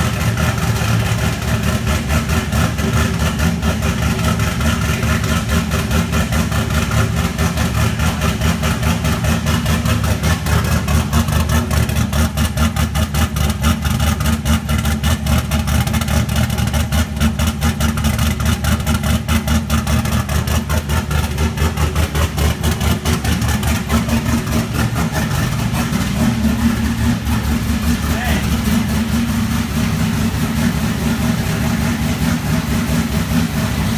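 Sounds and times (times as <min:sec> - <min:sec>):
car engine idling with choppy lope: 0:00.0 - 0:33.9.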